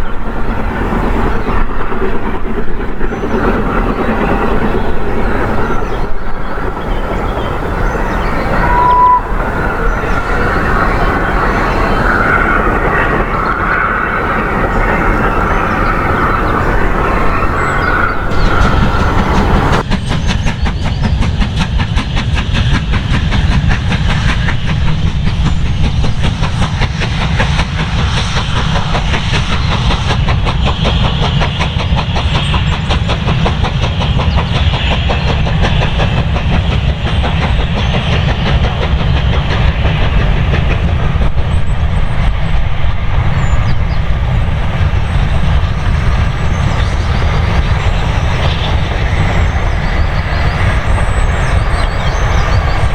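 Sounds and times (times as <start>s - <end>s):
heavy train rumble: 0.0s - 52.9s
train wheels clattering over rails: 0.0s - 52.9s.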